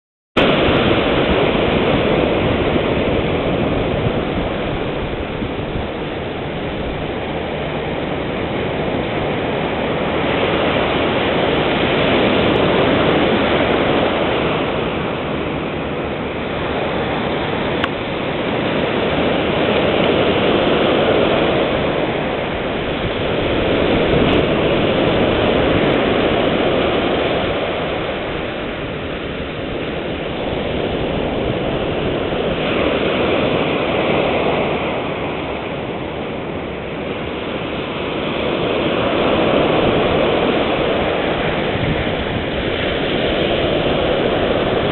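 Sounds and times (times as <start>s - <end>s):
ocean surf breaking on beach: 0.4s - 44.9s.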